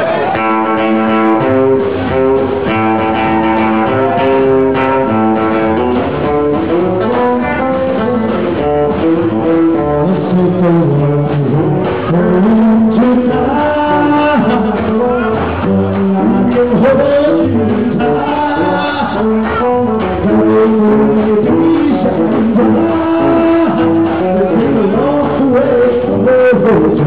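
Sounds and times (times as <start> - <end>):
guitar melodic run: 0.0 - 27.0
rock and roll band music: 0.0 - 27.0.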